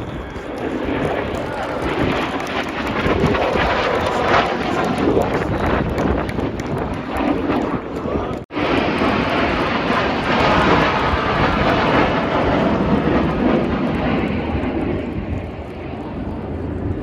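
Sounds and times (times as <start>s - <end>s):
aircraft engine flying past: 0.0s - 17.0s.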